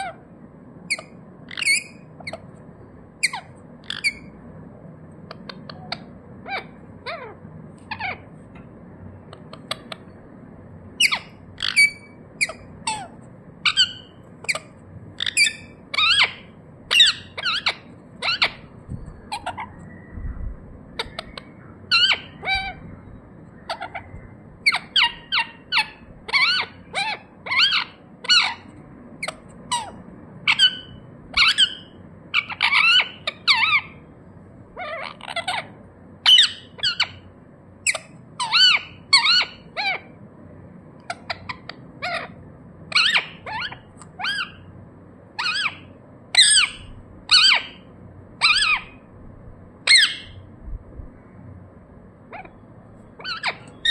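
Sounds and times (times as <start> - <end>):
parakeet squawking: 0.0 - 0.3, 0.9 - 2.6, 3.2 - 4.4, 5.2 - 10.2, 11.0 - 20.0, 20.9 - 34.1, 34.7 - 40.2, 40.9 - 49.1, 49.8 - 50.5, 52.3 - 53.9.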